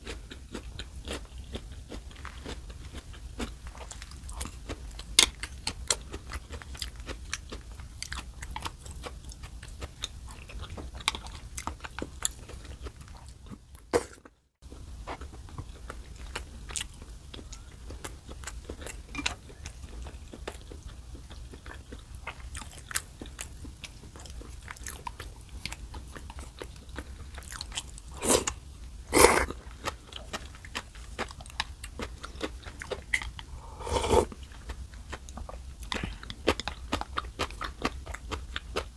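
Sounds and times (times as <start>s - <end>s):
close chewing with wet clicks: 0.0s - 13.6s, 15.0s - 33.5s, 34.4s - 38.9s.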